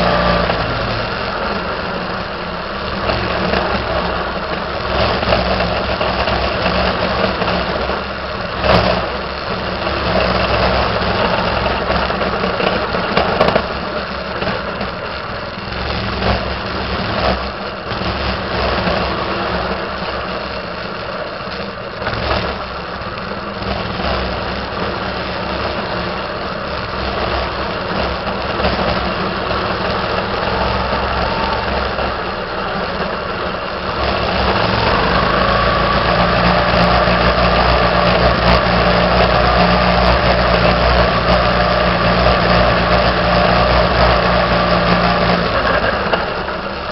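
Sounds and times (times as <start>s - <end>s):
minibike engine running: 0.0s - 46.9s.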